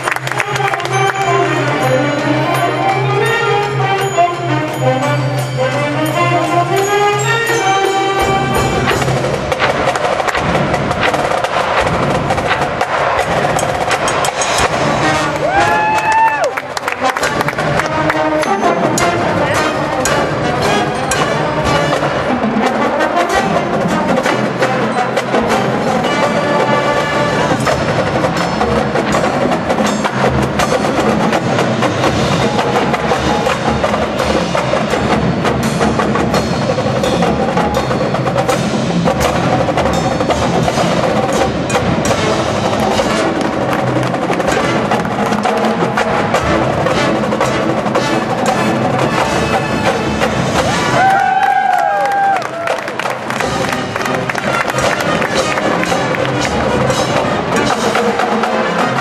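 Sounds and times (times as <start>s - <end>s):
mallet keyboards: 0.0s - 51.3s, 52.2s - 59.0s
snare and bass drums: 8.1s - 59.0s.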